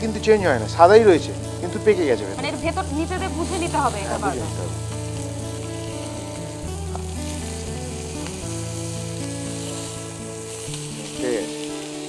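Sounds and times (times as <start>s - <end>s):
fish sizzling in a pan: 0.0s - 12.0s.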